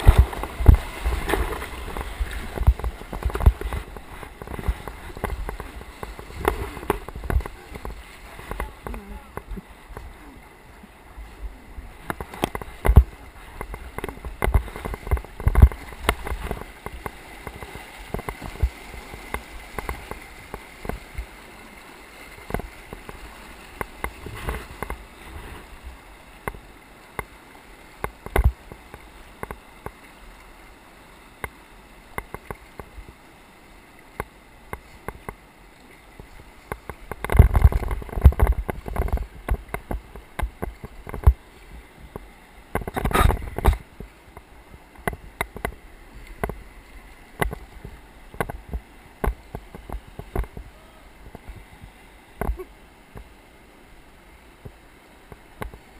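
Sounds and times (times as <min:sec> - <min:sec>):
river rushing: 0:00.0 - 0:55.9
water and paddle splashes: 0:00.0 - 0:55.9.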